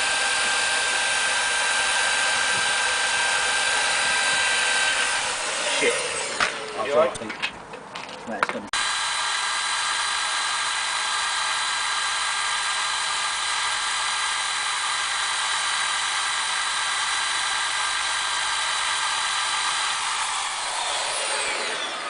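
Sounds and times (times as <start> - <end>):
electric drill whining: 0.0 - 7.2, 8.8 - 22.0.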